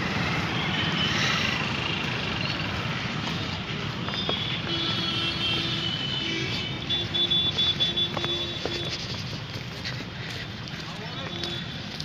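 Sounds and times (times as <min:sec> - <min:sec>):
outdoor street noise: 0:00.0 - 0:12.0.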